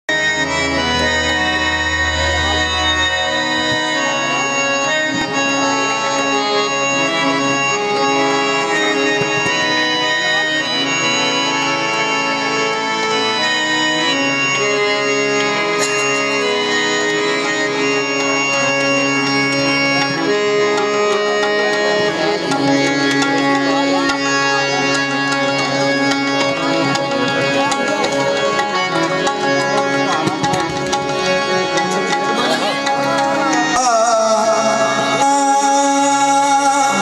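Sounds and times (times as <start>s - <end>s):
harmonium melody: 0.0s - 37.0s
tabla drumming: 0.2s - 12.8s, 14.2s - 37.0s.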